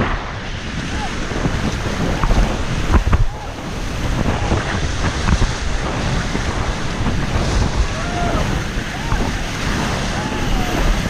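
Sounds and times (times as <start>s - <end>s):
paddles in water: 0.0s - 11.0s
river water rushing: 0.0s - 11.0s
wind buffeting microphone: 0.0s - 11.0s.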